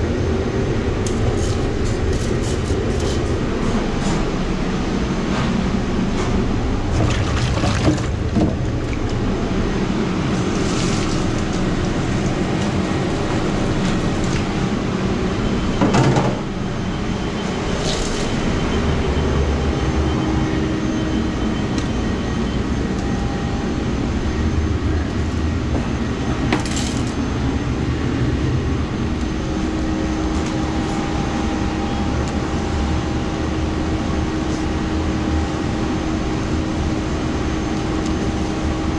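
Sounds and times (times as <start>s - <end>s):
kitchen machinery hum: 0.0s - 38.9s.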